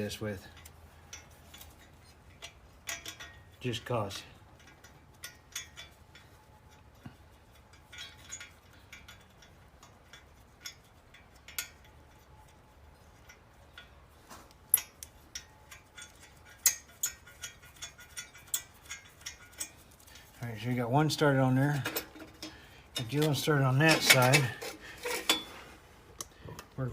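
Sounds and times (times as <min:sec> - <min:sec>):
small metallic clicks and clinks: 0:00.0 - 0:26.9.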